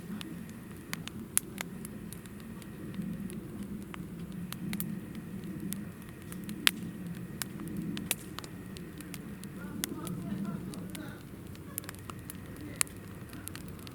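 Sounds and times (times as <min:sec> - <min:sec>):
firewood popping and snapping: 0:00.0 - 0:13.9
low rush of flame: 0:00.0 - 0:13.9.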